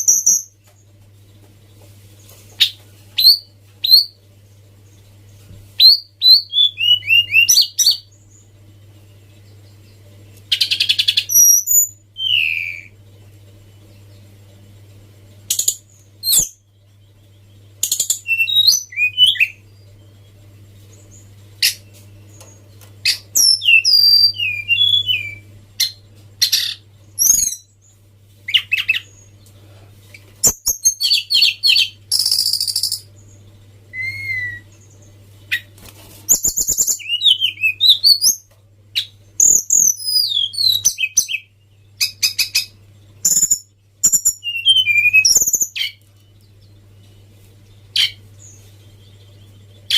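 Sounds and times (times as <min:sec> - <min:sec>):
songbird chirps whistles and trills: 0:00.0 - 0:49.9
steady low hum: 0:00.0 - 0:49.9.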